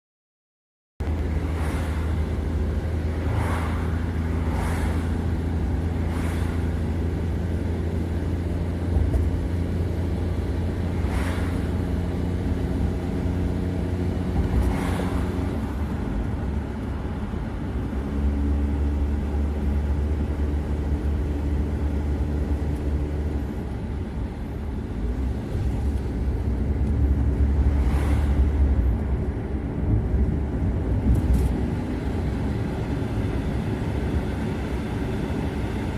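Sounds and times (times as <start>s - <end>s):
car engine and road drone: 1.0s - 35.9s.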